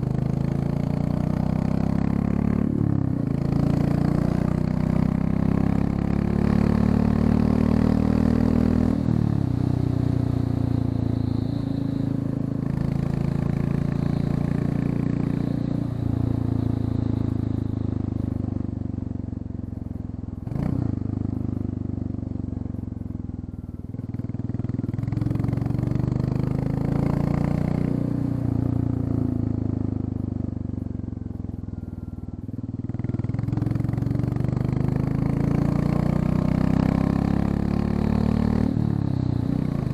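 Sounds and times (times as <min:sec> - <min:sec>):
motorcycle engine revving: 0:00.0 - 0:31.6, 0:32.4 - 0:39.9.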